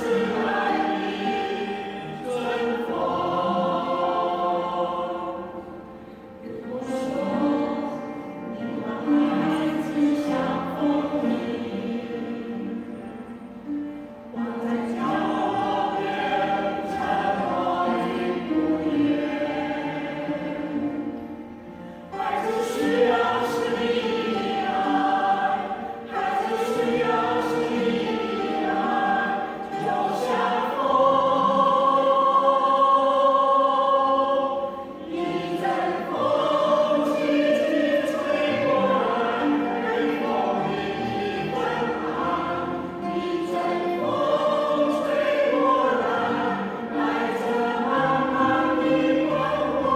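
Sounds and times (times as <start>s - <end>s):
choir singing: 0.0s - 49.9s.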